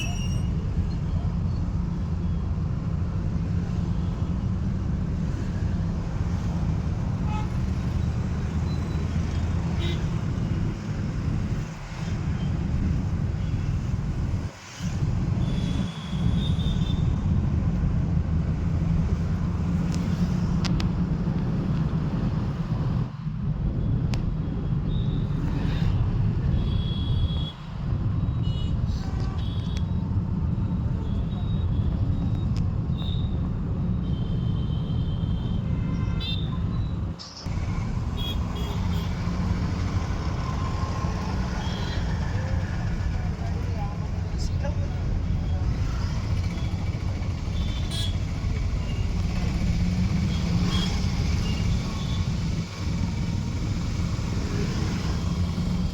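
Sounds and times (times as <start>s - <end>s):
car driving road and engine noise: 0.0s - 55.9s.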